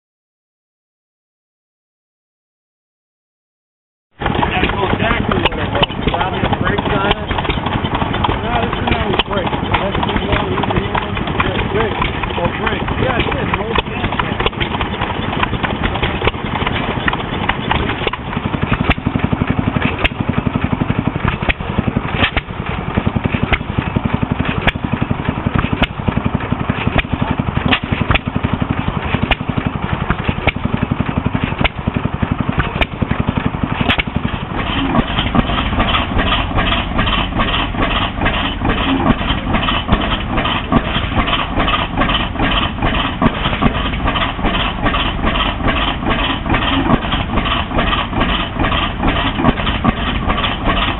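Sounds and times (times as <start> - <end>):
old engines running: 4.2 - 50.9.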